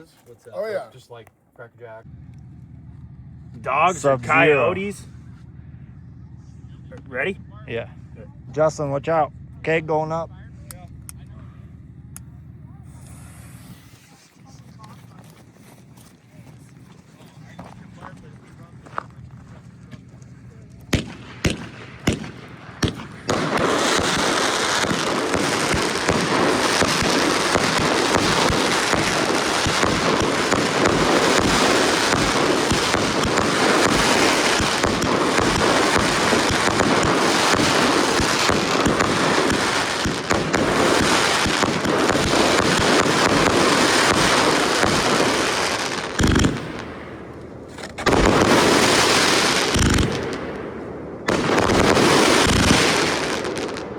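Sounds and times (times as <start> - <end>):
firework barrage with crackle: 10.2 - 53.9.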